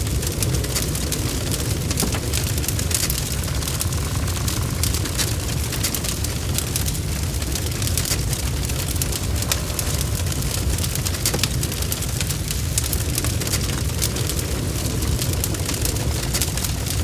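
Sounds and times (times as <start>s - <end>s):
rain pattering: 0.0s - 17.0s
wood fire crackling: 0.0s - 17.0s.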